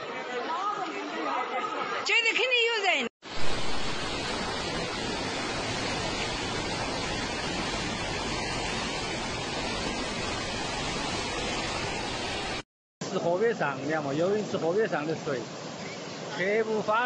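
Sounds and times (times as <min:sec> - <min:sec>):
floodwater rushing: 0:03.2 - 0:17.0.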